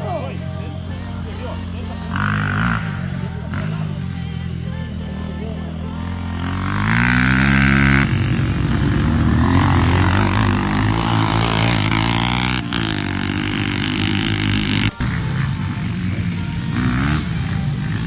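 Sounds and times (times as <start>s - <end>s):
dirt bike engines running: 0.0s - 18.0s.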